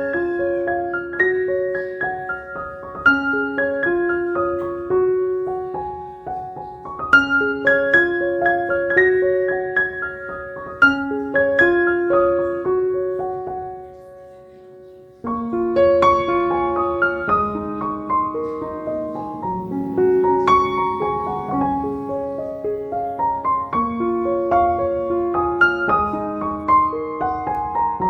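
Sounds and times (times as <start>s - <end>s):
soft piano music: 0.0s - 28.0s.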